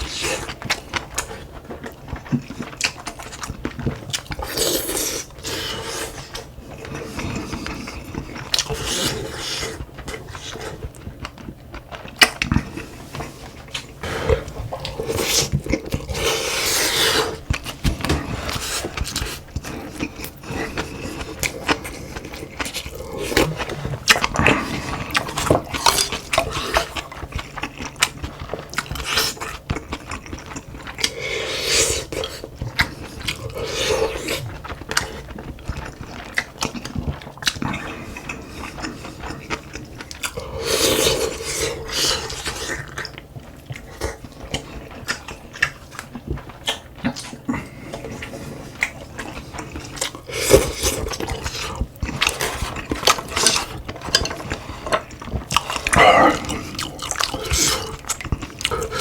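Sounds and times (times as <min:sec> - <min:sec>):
chewing: 0:00.0 - 0:59.0.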